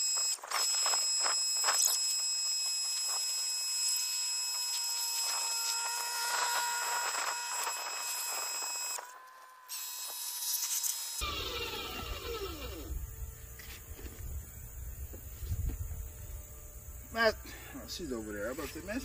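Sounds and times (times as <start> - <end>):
pressure washer motor whine: 0.0 - 19.0.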